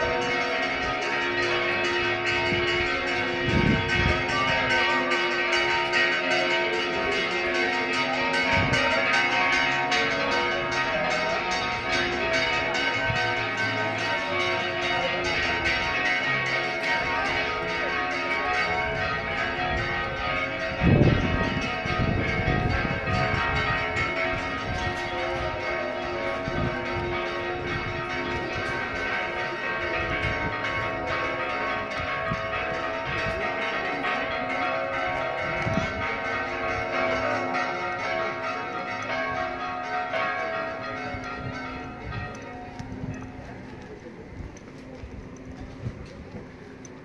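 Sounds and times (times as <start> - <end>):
church bells pealing: 0.0 - 47.0.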